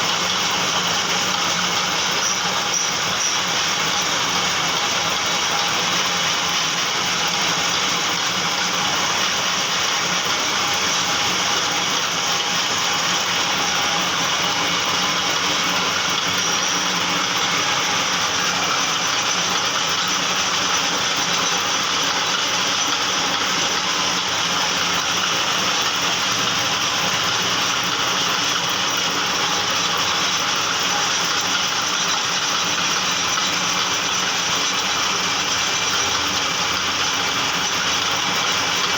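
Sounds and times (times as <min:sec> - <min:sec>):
metal lathe running: 0:00.0 - 0:38.9.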